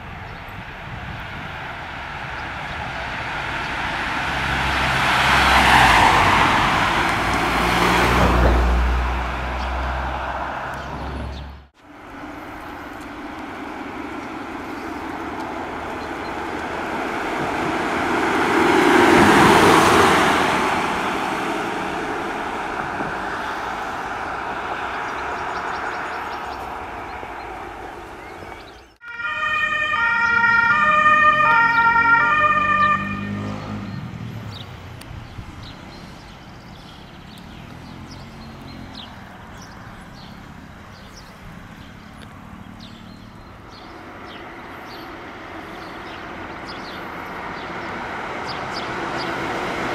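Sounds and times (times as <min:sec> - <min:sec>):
cars driving past at speed: 0:00.5 - 0:49.9.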